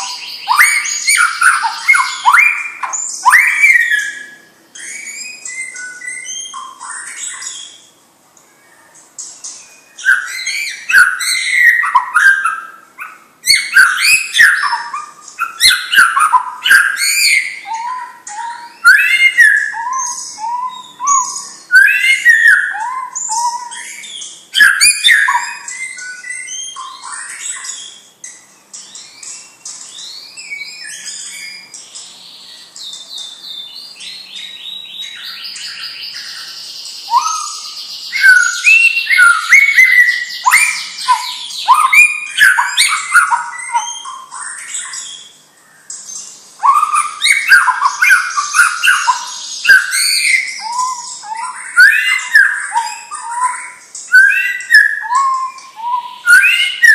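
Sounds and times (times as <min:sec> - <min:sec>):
bird whistling song: 0:00.0 - 0:56.9.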